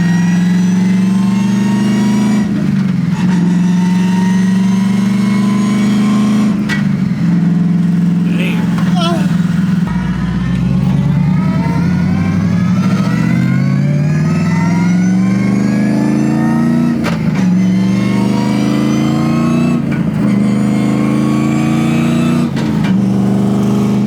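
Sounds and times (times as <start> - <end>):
car engine accelerating through gears: 0.0 - 24.0.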